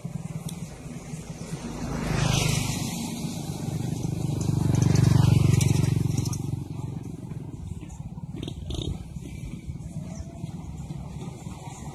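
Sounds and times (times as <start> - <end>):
road noise: 0.0 - 11.9
vehicle engine running: 0.0 - 11.9.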